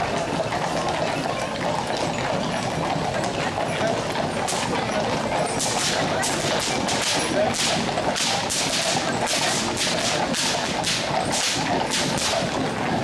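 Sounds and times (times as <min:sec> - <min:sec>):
hoofbeats on asphalt: 0:00.0 - 0:13.0
street murmur: 0:00.0 - 0:13.0.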